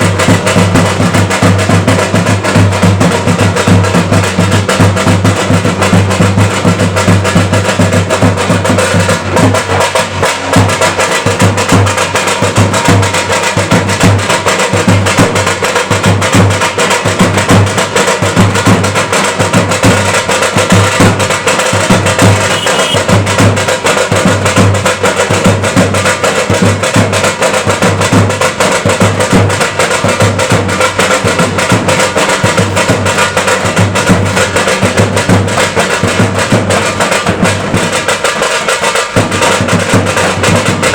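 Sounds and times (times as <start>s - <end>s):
loud music with fast drumming: 0.0s - 40.9s.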